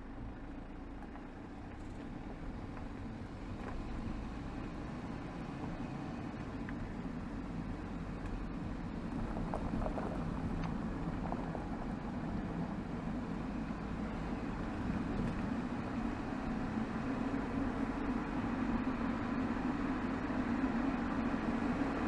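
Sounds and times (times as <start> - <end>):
diesel car engine running: 0.0 - 22.0.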